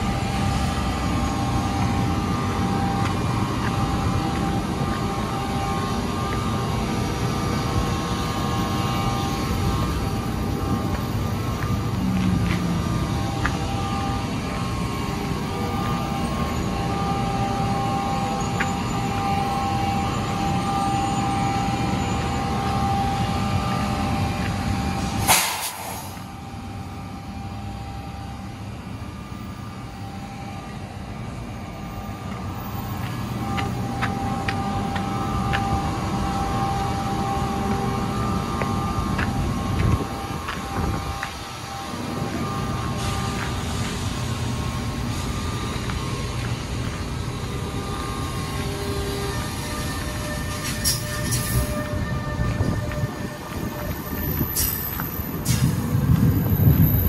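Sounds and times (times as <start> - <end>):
electric locomotive rumble and whine: 0.0 - 57.0.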